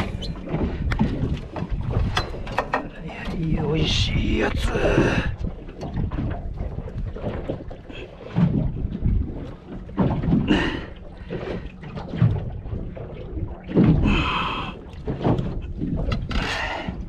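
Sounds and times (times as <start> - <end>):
water slapping hull: 0.0 - 17.0.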